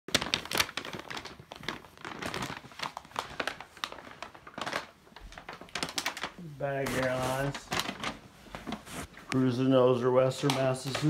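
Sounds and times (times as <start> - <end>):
paper bag rustling and crinkling: 0.1 - 11.0.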